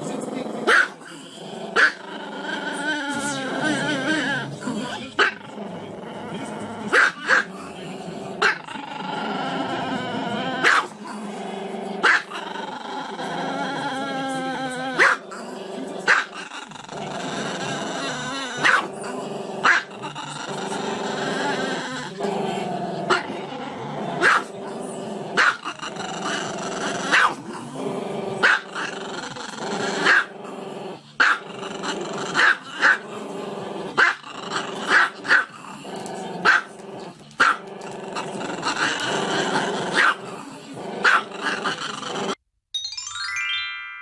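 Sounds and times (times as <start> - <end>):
small dog growling: 0.0 - 42.4.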